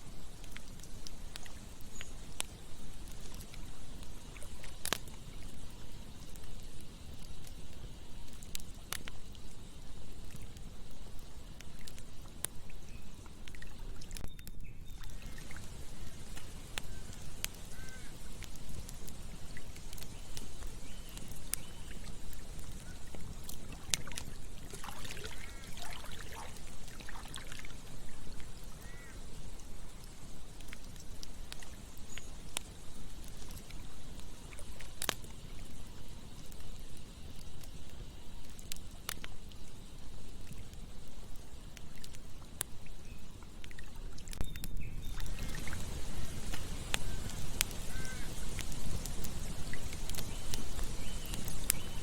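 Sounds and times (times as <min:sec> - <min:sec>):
flowing water: 0:00.0 - 0:44.4, 0:45.0 - 0:52.0
campfire crackling: 0:00.0 - 0:52.0
gurgling stream: 0:00.0 - 0:52.0
sharp fire pops: 0:00.1 - 0:27.5, 0:28.1 - 0:42.8, 0:44.3 - 0:52.0.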